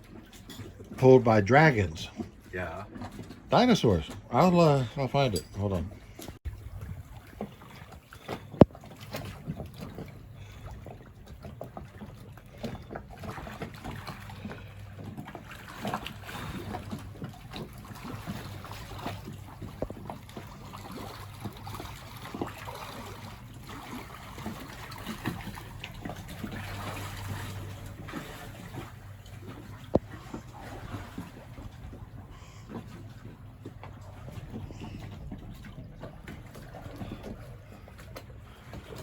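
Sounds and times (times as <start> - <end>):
water splashing against hull: 0.0 - 39.0.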